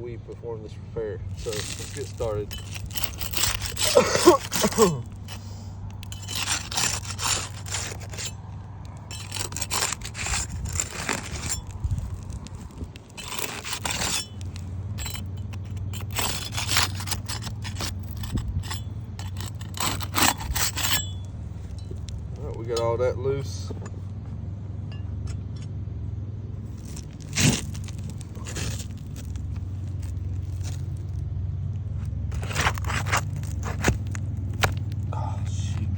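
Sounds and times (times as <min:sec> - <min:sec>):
hand tool scraping under shingles: 0:01.3 - 0:23.8, 0:26.6 - 0:31.2, 0:32.0 - 0:35.9.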